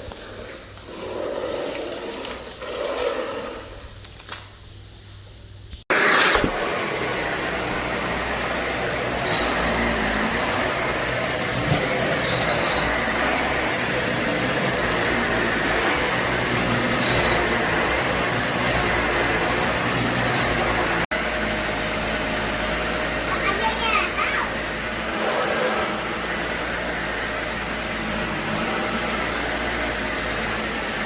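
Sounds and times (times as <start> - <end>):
vacuum cleaner running: 5.9 - 31.0.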